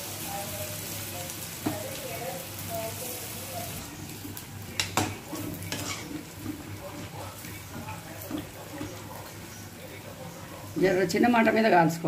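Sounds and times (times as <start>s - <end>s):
fritters sizzling in hot oil: 0.0s - 12.0s.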